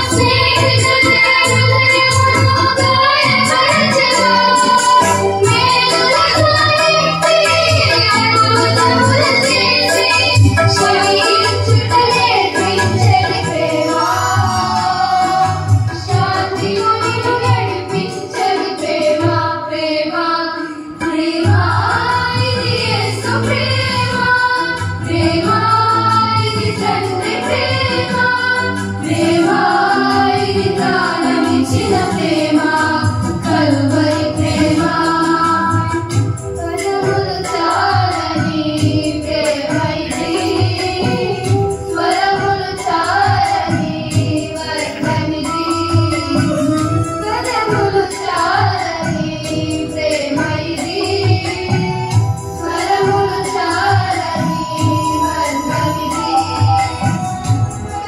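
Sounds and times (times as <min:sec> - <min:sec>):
girls singing in chorus: 0:00.0 - 0:57.3.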